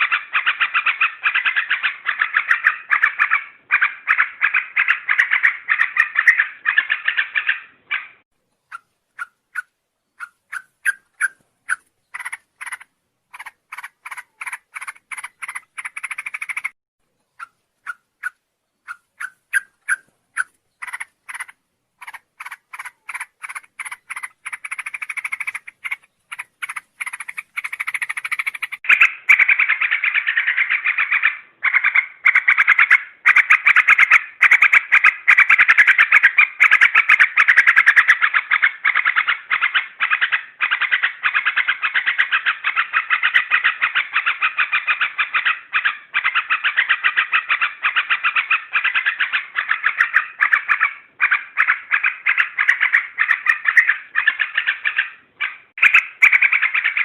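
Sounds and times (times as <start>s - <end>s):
bird chattering calls: 0.0s - 57.0s.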